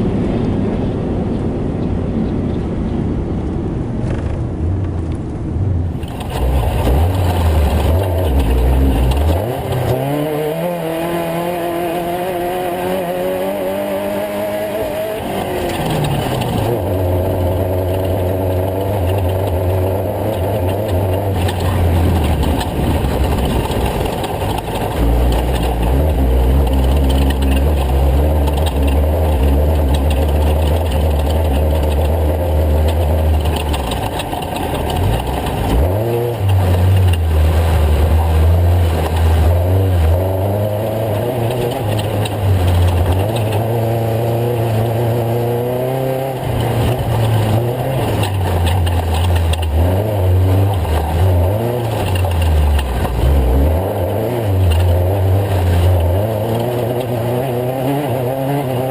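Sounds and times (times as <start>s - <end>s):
race truck engine revving: 5.9s - 58.9s.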